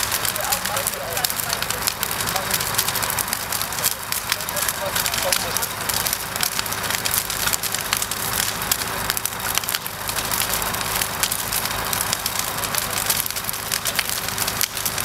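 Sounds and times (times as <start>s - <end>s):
dense irregular crackling: 0.0s - 15.0s
motor hum: 0.0s - 15.0s.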